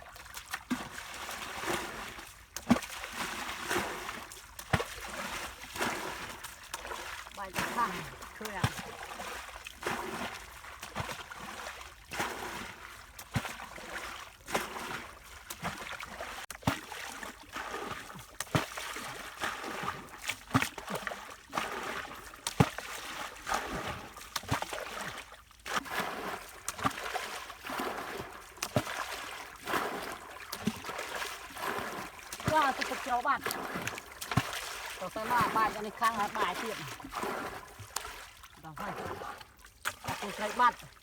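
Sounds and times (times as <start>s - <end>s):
water splashing and sloshing: 0.0s - 41.0s.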